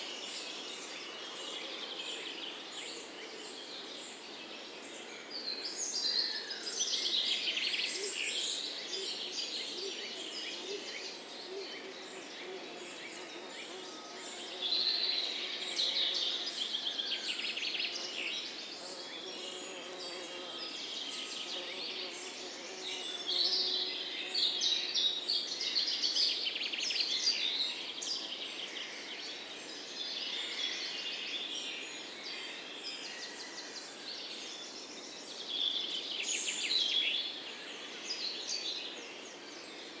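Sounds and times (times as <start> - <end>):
songbirds chirping in chorus: 0.0 - 40.0.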